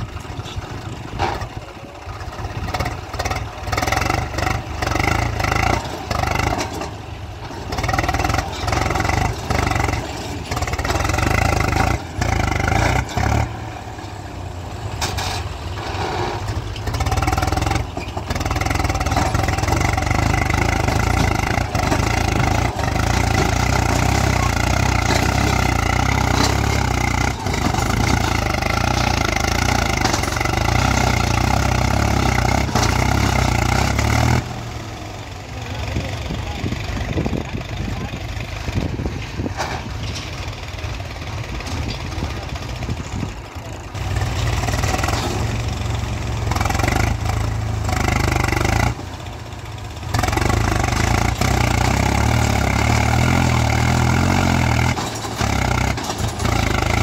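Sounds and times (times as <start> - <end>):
tractor diesel engine labouring: 0.0 - 57.0.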